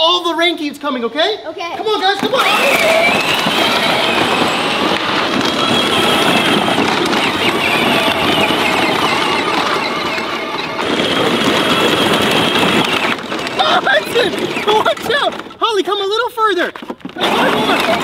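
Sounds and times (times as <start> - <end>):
plastic wheels crunching gravel: 1.8 - 18.0
wooden trailer rattling: 1.8 - 18.0
toy tractor motor whining: 2.1 - 16.4, 17.0 - 18.0.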